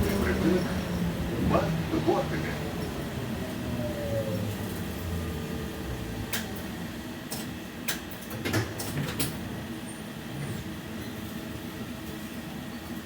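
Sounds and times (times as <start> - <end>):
tram interior hum: 0.0 - 13.0.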